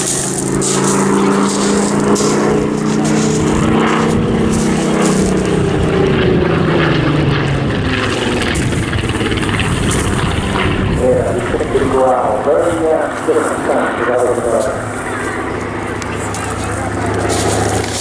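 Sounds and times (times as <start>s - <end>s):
aircraft piston engine passing: 0.0s - 18.0s.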